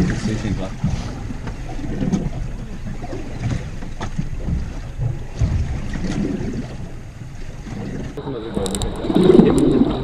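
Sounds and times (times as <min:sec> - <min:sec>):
water sloshing at boat hull: 0:00.0 - 0:10.0
wind buffeting microphone: 0:00.0 - 0:10.0.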